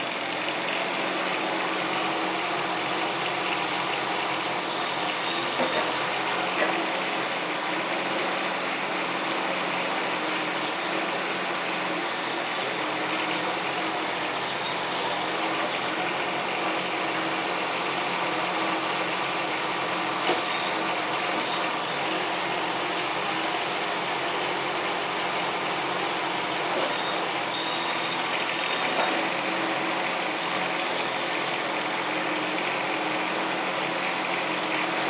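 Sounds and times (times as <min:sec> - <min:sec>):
mini excavator engine and hydraulics: 0:00.0 - 0:35.0.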